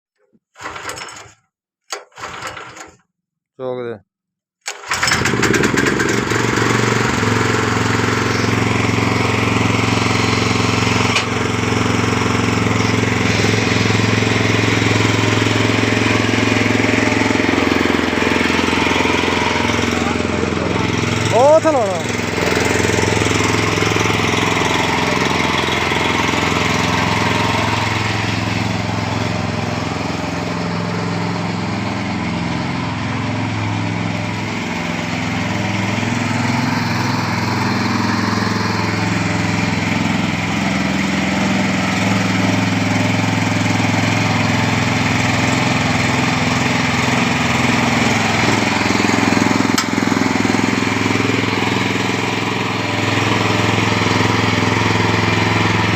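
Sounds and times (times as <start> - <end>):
small rotavator engine running: 4.7 - 55.9.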